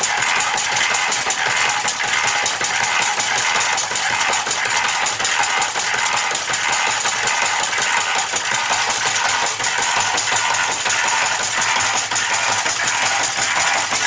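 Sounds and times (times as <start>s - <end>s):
mechanical food chopper clattering: 0.0s - 14.0s.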